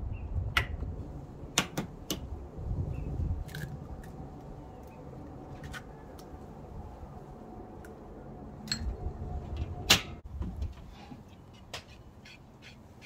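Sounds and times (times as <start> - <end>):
wind rumble on microphone: 0.0 - 10.9.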